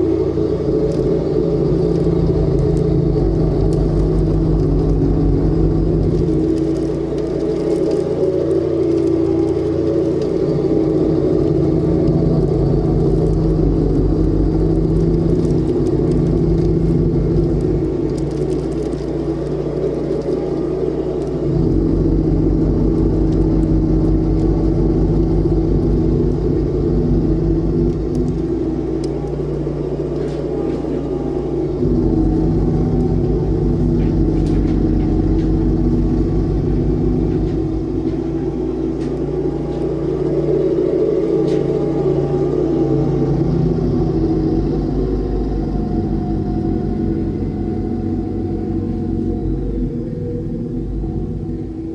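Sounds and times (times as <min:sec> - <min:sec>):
garden tractor engine and snowblower: 0:00.0 - 0:51.9.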